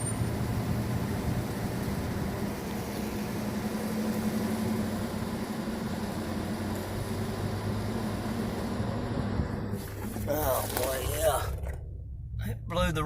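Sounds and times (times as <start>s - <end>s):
car engine drone: 0.0s - 13.0s
road noise: 0.0s - 13.0s.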